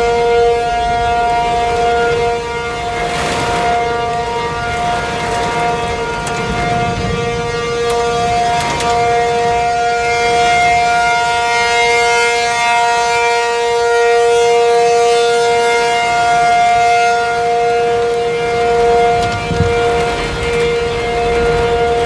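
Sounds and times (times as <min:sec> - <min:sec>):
outdoor warning siren: 0:00.0 - 0:22.0.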